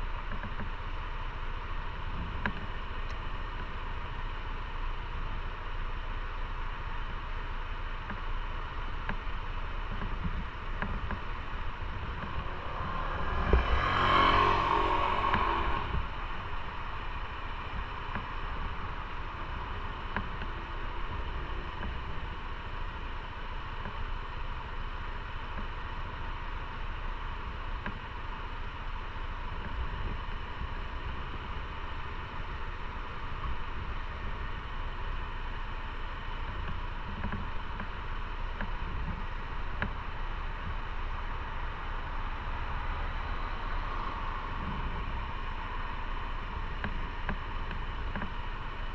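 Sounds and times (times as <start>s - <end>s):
motorcycle engine running: 0.0s - 48.9s
wind and road rush: 0.0s - 48.9s.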